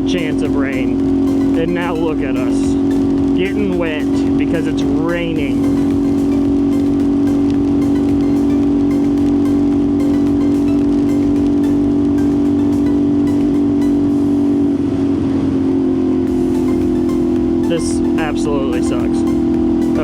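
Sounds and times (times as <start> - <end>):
wind and rain rushing: 0.0 - 18.3
motorcycle engine droning: 0.0 - 20.0.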